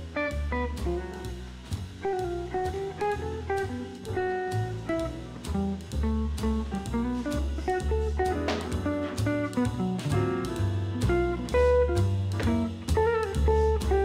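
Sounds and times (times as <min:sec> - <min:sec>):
jazzy guitar with bass and drums: 0:00.0 - 0:14.0.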